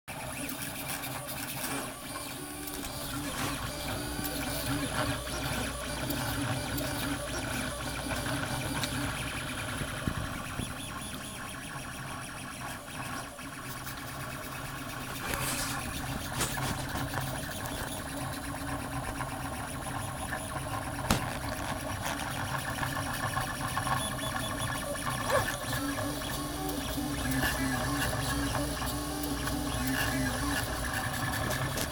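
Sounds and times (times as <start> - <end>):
stepper motors whirring: 0.1 - 31.9.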